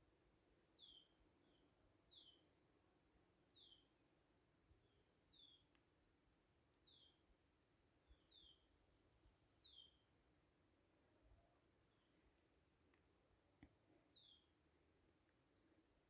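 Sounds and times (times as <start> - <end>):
bird chirping: 0.1 - 12.9, 13.5 - 15.9.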